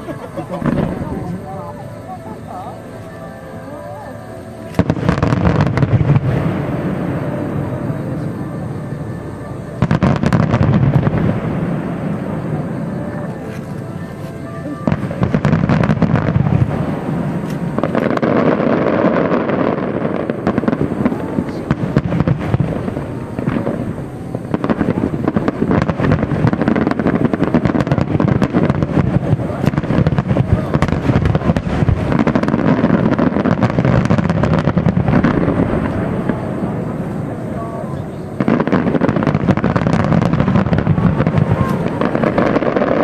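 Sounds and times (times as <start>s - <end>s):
fireworks booming and crackling: 0.0s - 43.0s.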